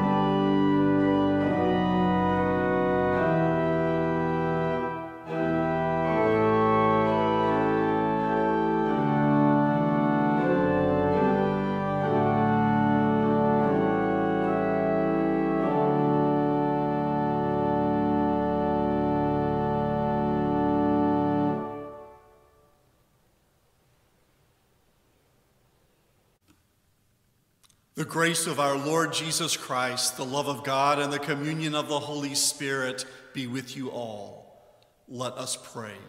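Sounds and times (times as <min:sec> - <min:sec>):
pipe organ chords: 0:00.0 - 0:22.8, 0:28.0 - 0:34.5.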